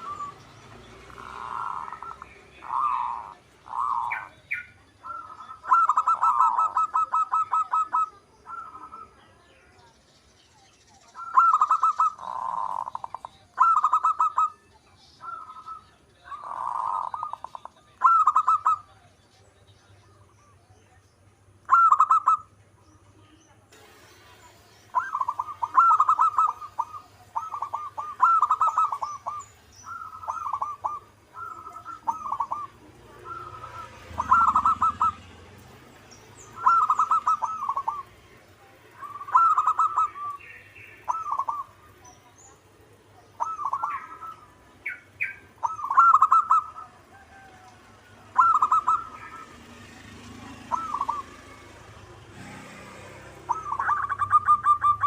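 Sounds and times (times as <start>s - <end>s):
dove cooing: 0.0s - 9.2s, 11.1s - 14.6s, 15.2s - 19.1s, 21.7s - 22.6s, 24.9s - 55.0s.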